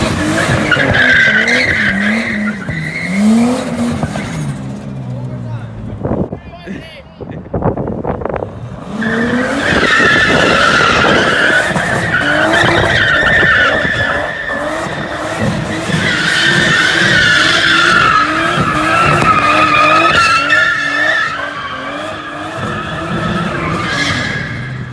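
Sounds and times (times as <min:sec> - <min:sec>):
car engine revving: 0:00.0 - 0:06.2, 0:08.2 - 0:24.9
tyres screeching: 0:00.3 - 0:04.6, 0:09.0 - 0:24.8.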